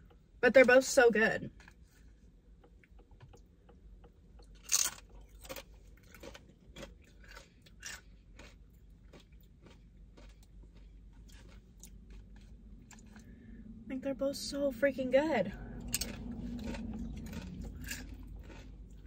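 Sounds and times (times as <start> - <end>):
person chewing crunchy food: 1.5 - 13.6, 15.5 - 19.0.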